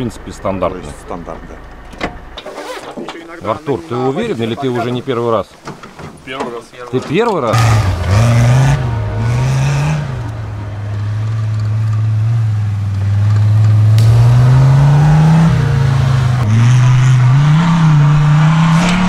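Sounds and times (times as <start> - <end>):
buggy engine revving: 0.0 - 4.5, 7.5 - 19.0.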